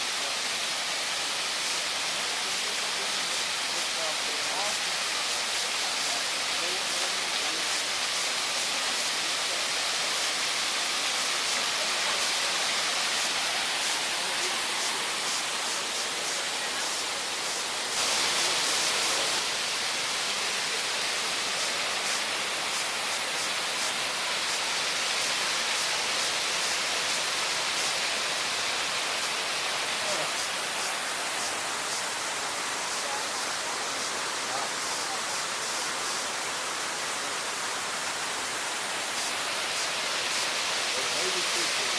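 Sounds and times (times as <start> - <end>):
steady hissing rush: 0.0 - 41.9.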